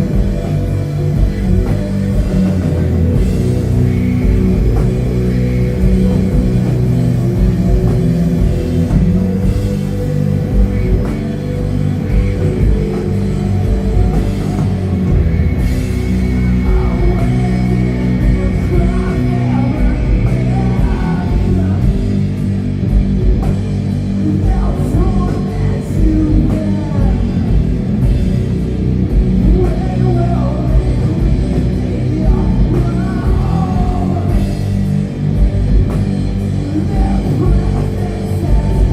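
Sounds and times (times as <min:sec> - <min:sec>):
doom metal band playing: 0:00.0 - 0:38.9.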